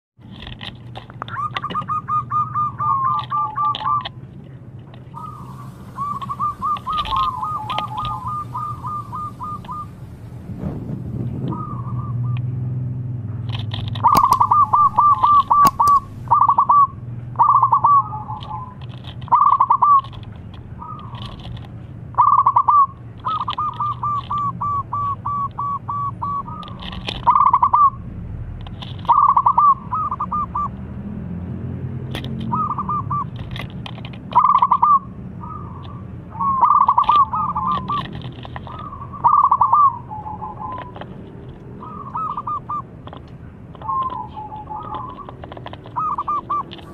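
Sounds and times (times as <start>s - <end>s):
dove cooing: 1.2s - 4.2s, 5.1s - 10.4s, 11.3s - 12.6s, 13.8s - 21.6s, 22.2s - 28.0s, 29.0s - 30.8s, 32.3s - 46.9s.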